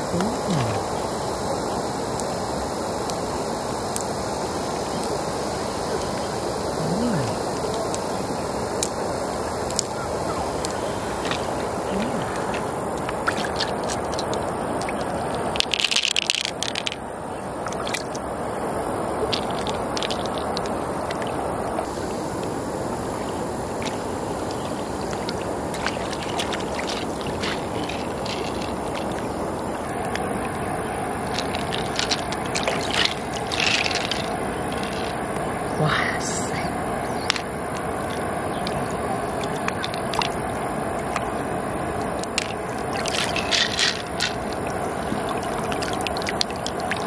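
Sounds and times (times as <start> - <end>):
river water flowing: 0.0 - 47.0.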